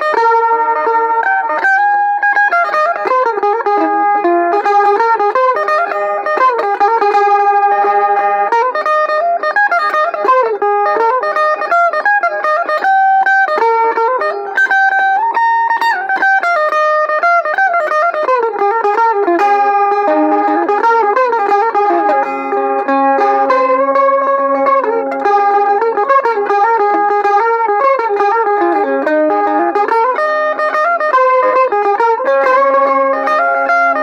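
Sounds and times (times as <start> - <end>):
electric mandolin melody: 0.0 - 34.0.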